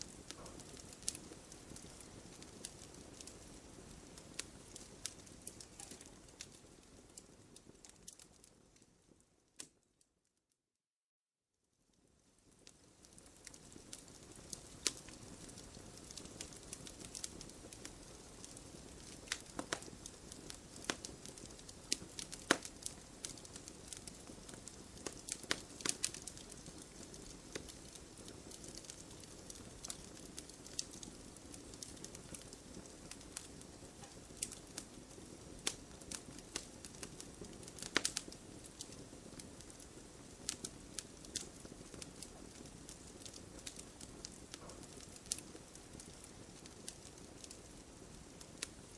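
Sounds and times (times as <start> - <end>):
wood fire crackling and popping: 0.0 - 10.0, 12.0 - 48.9.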